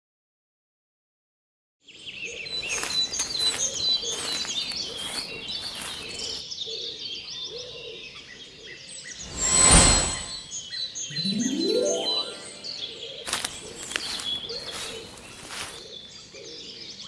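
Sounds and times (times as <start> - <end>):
birds chirping and twittering: 1.9 - 17.0.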